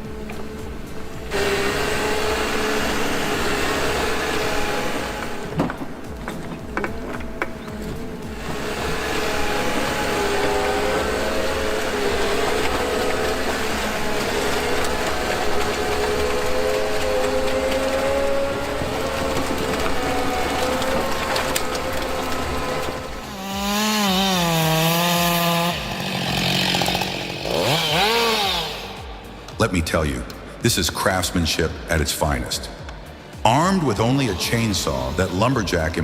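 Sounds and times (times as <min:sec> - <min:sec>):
chainsaw cutting and revving: 0:00.0 - 0:29.6, 0:32.4 - 0:36.0.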